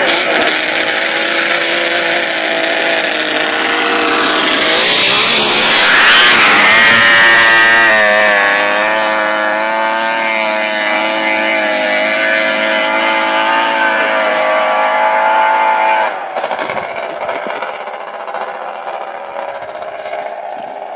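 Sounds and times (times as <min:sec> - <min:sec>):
snowmobile engine running hard: 0:00.0 - 0:20.9.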